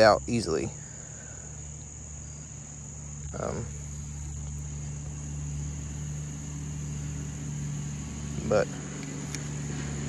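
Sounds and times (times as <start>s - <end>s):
insects chorus: 0.0s - 10.0s
low steady hum: 0.0s - 10.0s.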